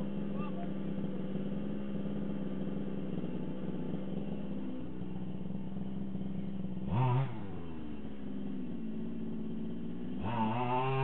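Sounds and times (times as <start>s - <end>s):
small gas engine idling: 0.0s - 11.0s.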